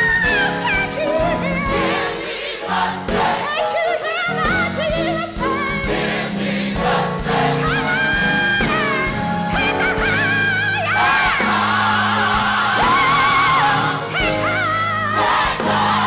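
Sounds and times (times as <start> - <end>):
band accompaniment with steady beat: 0.0 - 16.0
gospel choir singing: 0.1 - 16.0.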